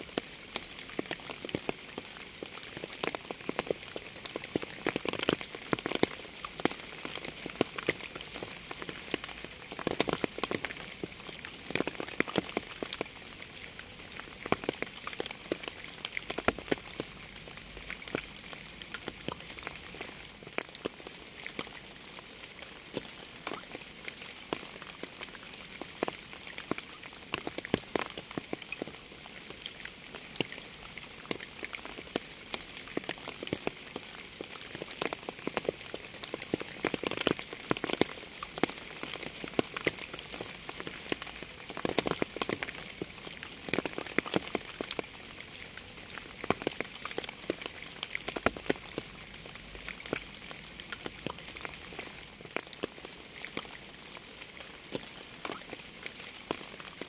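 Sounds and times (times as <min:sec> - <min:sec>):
raindrops tapping a surface: 0:00.0 - 0:57.0
steady rain: 0:00.0 - 0:57.0.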